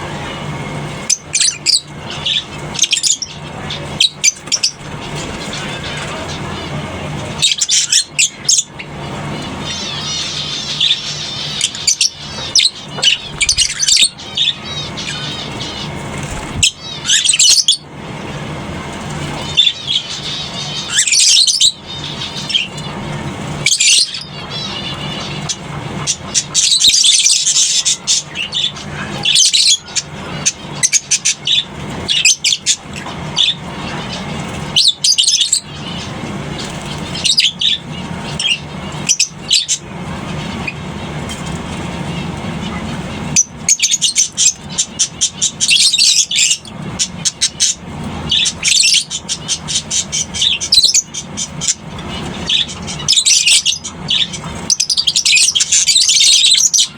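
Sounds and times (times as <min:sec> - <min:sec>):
lovebirds chirping and shrieking: 0:00.0 - 0:56.9
steady low hum: 0:00.0 - 0:56.9.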